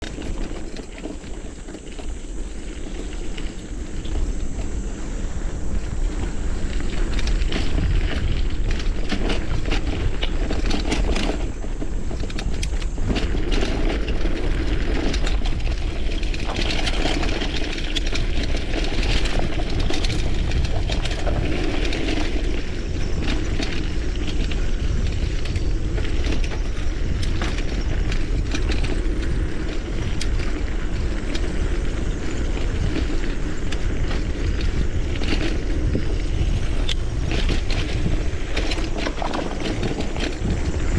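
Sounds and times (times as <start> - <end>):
bike rattling over ground: 0.0 - 40.9
rumble of wind and tyres: 0.0 - 40.9
cicada chorus droning: 0.1 - 40.9.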